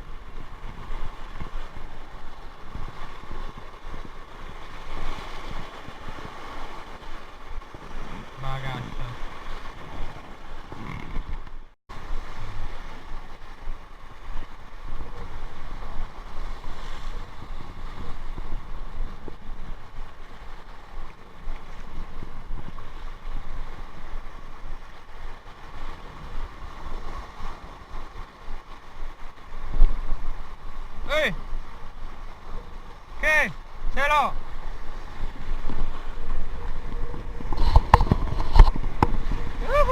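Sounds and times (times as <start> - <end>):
sea waves breaking on rocks: 0.0 - 39.9
wind buffeting microphone: 0.0 - 39.9.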